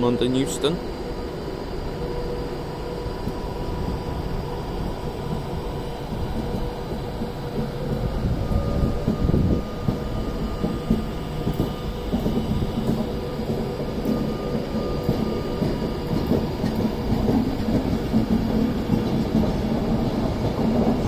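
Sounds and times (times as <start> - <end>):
electric train rumble and whine: 0.0 - 21.0.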